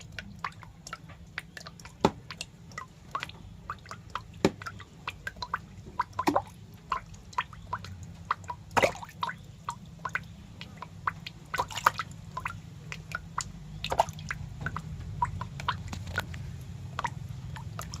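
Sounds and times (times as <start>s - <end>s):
wet clicks and drips: 0.0s - 18.0s.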